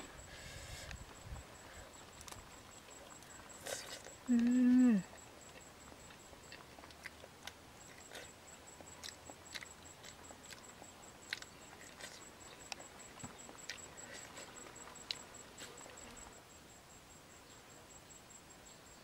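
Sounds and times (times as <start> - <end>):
chewing and biting fruit: 0.0 - 16.4.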